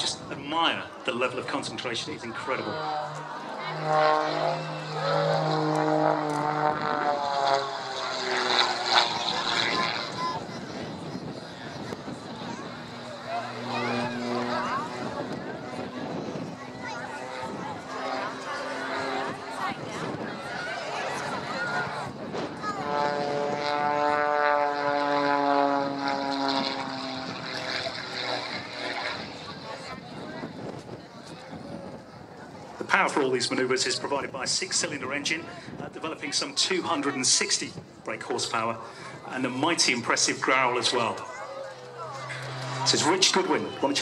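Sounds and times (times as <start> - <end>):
propeller plane engine droning: 0.0 - 44.0.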